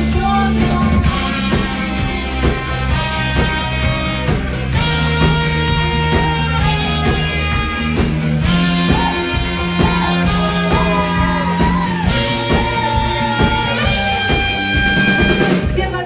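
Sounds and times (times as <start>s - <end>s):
bass: 0.0s - 16.0s
drum kit: 0.0s - 16.0s
pop rock band playing: 0.0s - 16.0s
sliding lead melody: 0.0s - 16.0s.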